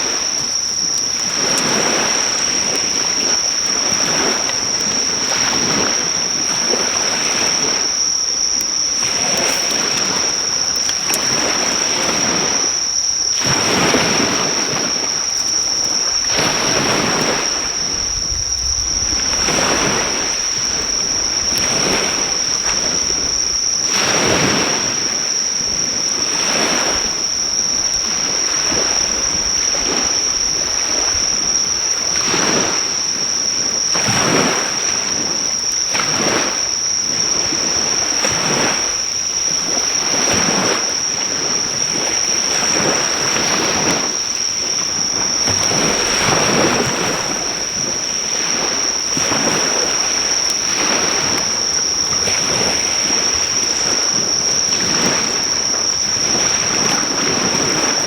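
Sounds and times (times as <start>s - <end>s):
high-pitched insect trill: 0.0s - 58.0s
waves washing on shore: 0.0s - 58.0s.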